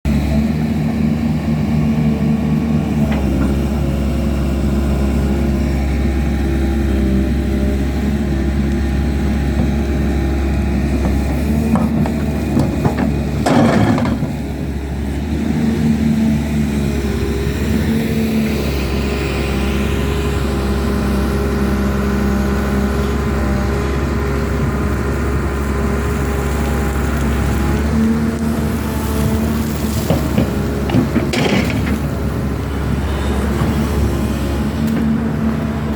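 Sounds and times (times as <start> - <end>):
diesel earthmoving machinery running: 0.1 - 35.9.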